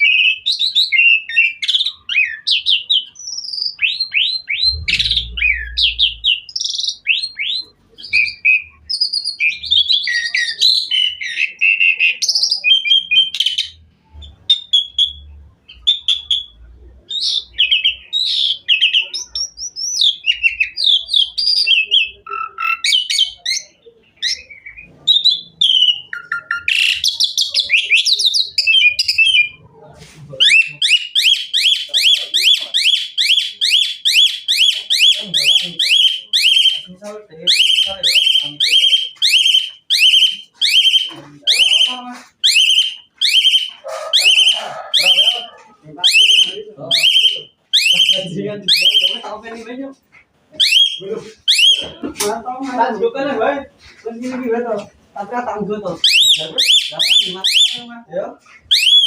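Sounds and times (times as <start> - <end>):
starling singing: 0.0 - 29.8, 30.4 - 49.7, 50.6 - 52.0, 55.8 - 58.0, 58.6 - 59.0.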